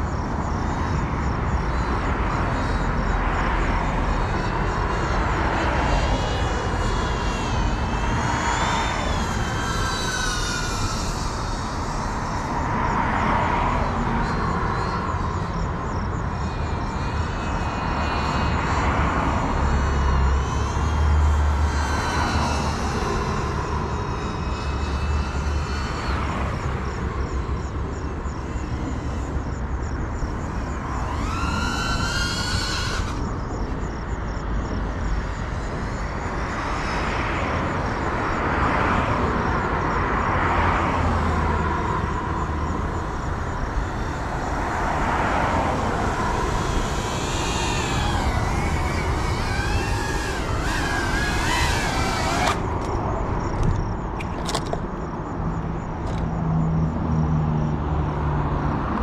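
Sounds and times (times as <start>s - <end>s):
drone motors whining: 0.0s - 56.5s.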